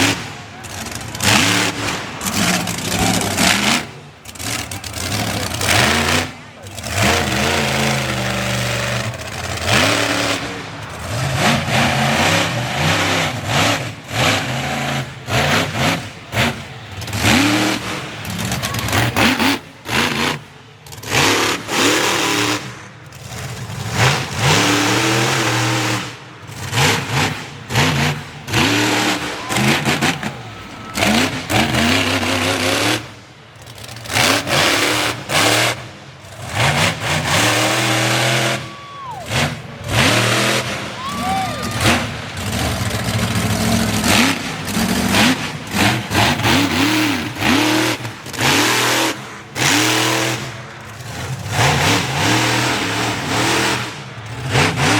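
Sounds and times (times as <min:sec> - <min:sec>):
truck engine revving hard: 0:00.0 - 0:54.9.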